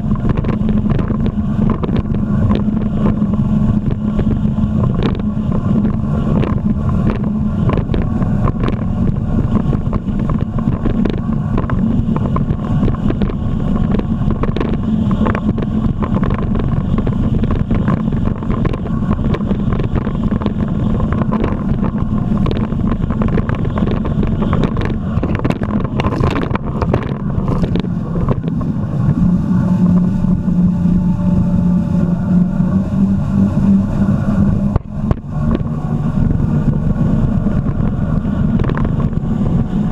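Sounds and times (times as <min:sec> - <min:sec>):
jet ski engine running: 0:00.0 - 0:39.9
wind on microphone: 0:00.0 - 0:39.9.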